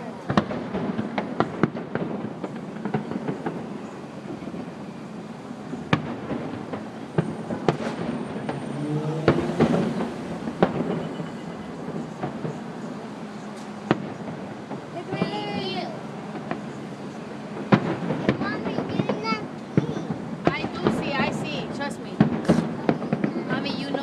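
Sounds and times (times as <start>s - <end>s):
fireworks popping and banging: 0.0s - 24.0s.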